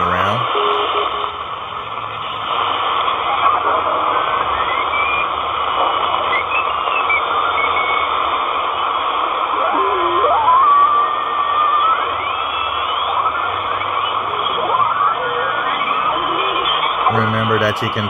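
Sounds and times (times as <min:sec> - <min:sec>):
whistling radio tones: 0:00.0 - 0:01.4, 0:02.2 - 0:18.0
radio static hiss: 0:00.0 - 0:18.0.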